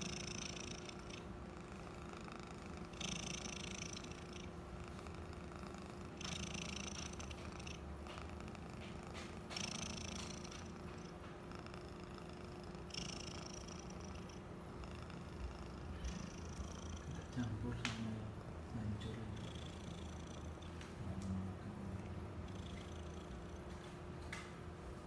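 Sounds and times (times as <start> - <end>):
cat purring: 0.0 - 24.5.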